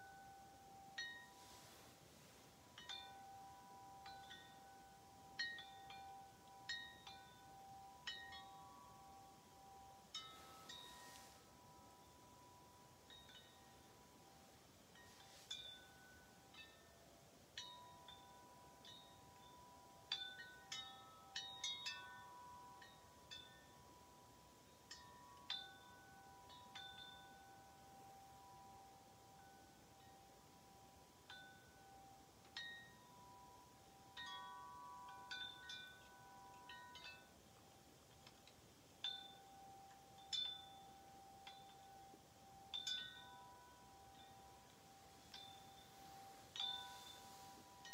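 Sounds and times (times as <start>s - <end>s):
metal tube wind chime ringing: 0.0s - 47.9s.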